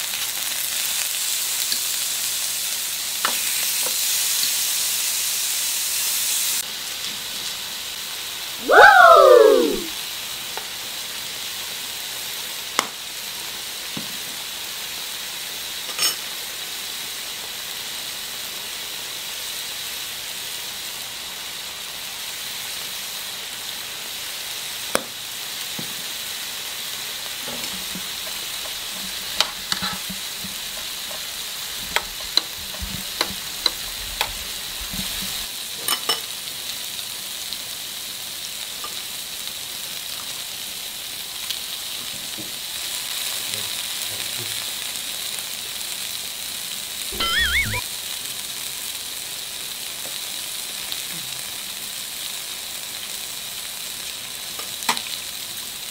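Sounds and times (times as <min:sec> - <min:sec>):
food sizzling on grill plate: 0:00.0 - 0:55.9.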